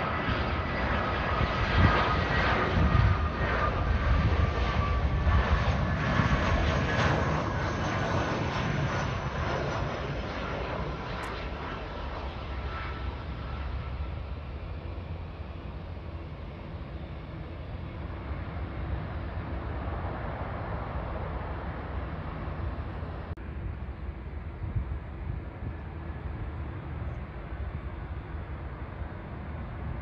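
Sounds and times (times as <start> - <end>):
distant jet engine noise: 0.0 - 30.0.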